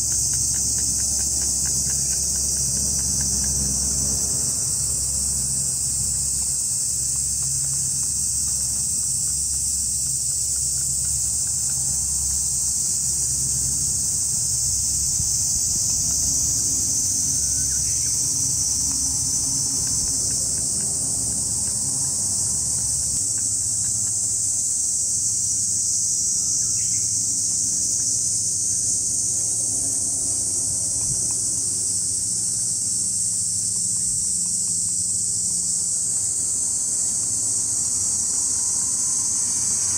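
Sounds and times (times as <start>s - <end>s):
distant hovercraft rumble: 0.0s - 25.3s, 28.8s - 38.8s
cicadas chorus: 0.0s - 39.9s.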